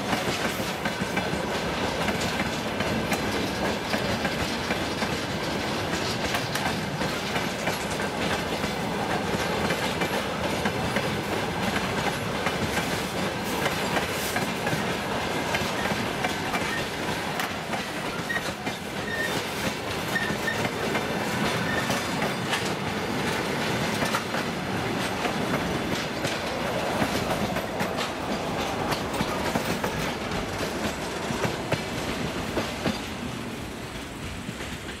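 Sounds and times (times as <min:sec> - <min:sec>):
train wheels clattering over rail joints: 0:00.0 - 0:35.0.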